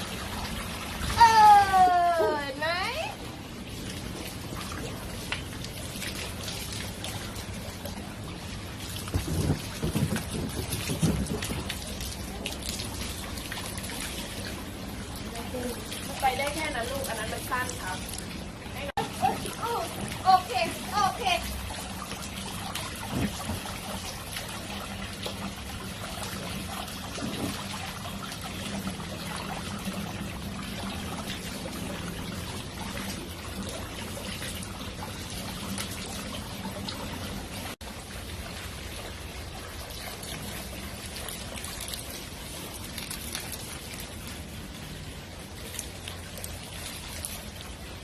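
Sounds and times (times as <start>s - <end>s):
water splashing from hose: 0.0s - 48.0s.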